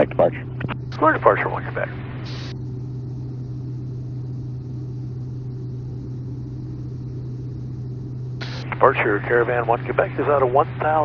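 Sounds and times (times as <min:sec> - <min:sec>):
turboprop engine drone: 0:00.0 - 0:11.0.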